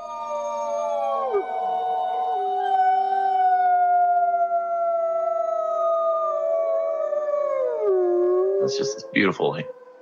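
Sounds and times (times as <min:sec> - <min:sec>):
wolves howling: 0:00.0 - 0:10.0.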